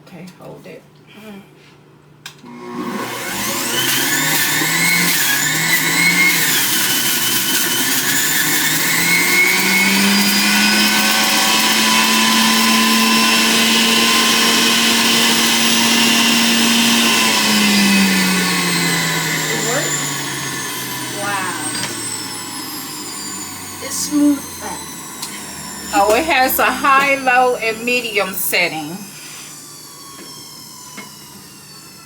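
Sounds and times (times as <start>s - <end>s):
juicer motor whining: 2.4s - 32.0s.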